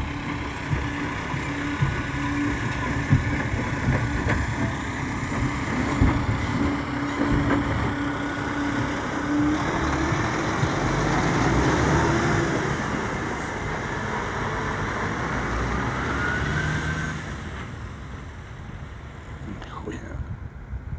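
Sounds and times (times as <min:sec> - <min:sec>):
diesel truck engine rumbling: 0:00.0 - 0:20.9.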